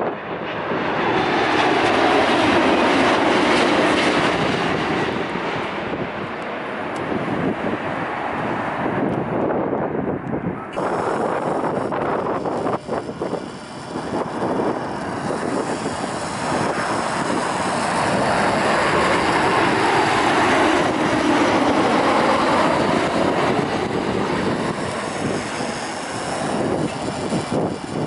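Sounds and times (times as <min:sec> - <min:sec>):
jet engines passing overhead: 0:00.0 - 0:28.0.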